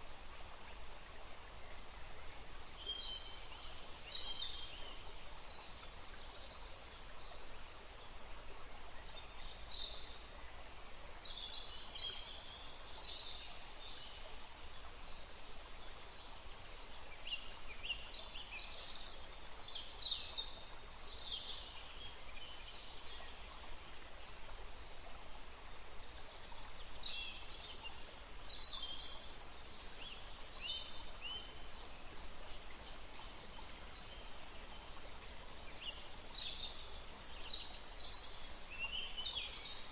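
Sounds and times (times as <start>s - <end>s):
steady outdoor hiss: 0.0s - 39.9s.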